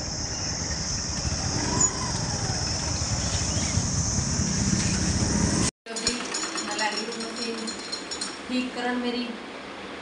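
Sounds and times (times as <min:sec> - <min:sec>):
motorcycle engines rumbling: 0:00.0 - 0:08.6.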